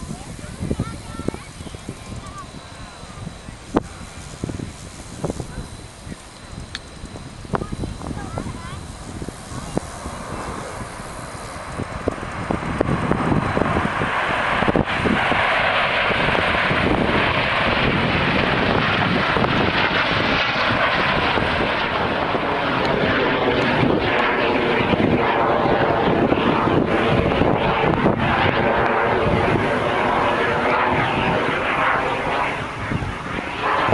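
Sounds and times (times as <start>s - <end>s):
airplane engine: 0.0s - 33.9s.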